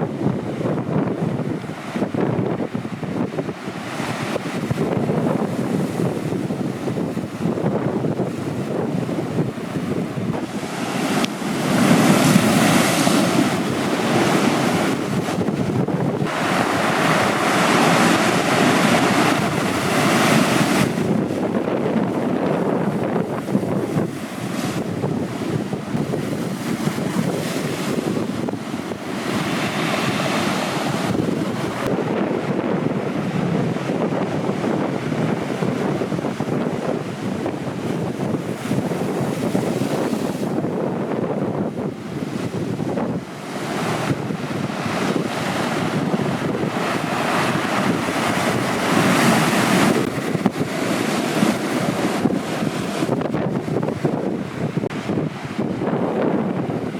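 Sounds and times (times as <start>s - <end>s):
heavy ocean surf breaking: 0.0s - 56.9s
wind buffeting microphone: 0.0s - 56.9s.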